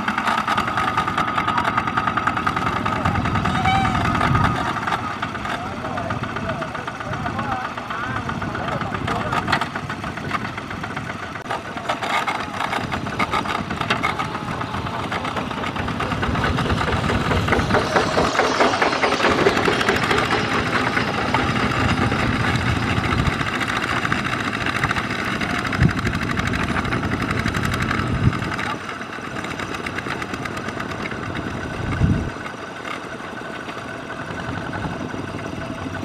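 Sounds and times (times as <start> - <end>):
diesel tractor engine chugging: 0.0 - 36.0.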